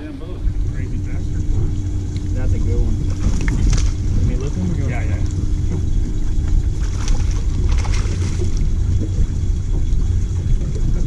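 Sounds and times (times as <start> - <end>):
water rumbling under boat: 0.0 - 11.0
wind rumble: 0.0 - 11.0.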